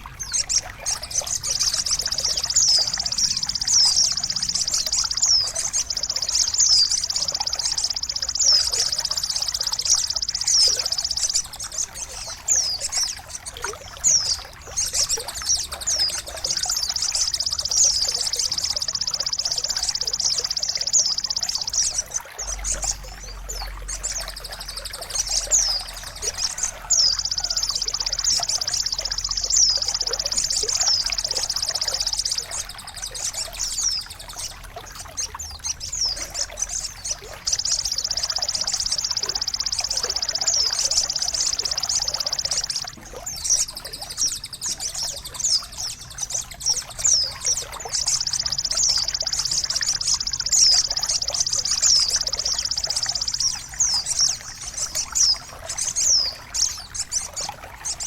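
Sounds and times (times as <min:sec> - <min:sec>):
bird chirping: 0:00.0 - 0:58.0
water trickling: 0:00.0 - 0:58.0.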